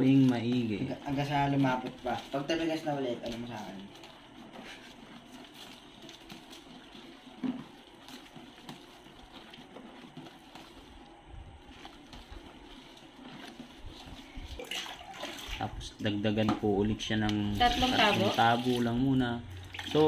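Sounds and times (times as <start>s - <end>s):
plastic utensil scraping tub: 0.0s - 16.7s, 17.4s - 20.0s
thick liquid sloshing: 0.0s - 20.0s.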